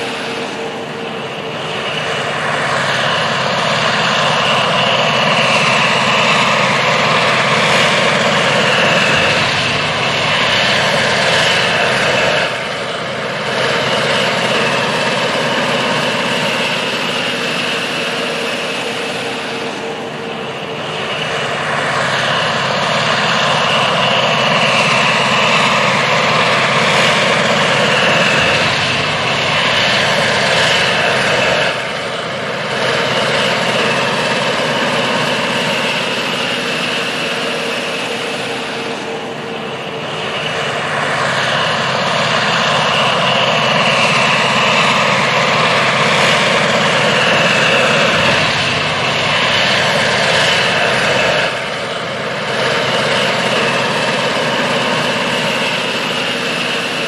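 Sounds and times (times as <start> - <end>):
high whine: 0.0 - 57.0
tractor diesel engine running hard: 0.0 - 57.0.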